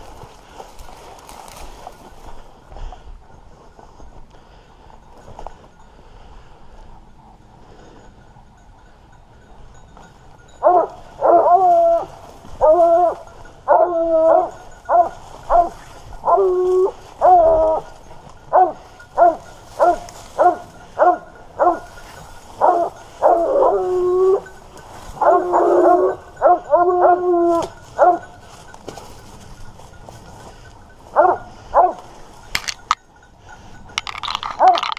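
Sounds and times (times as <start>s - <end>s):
hounds baying: 6.8s - 34.9s.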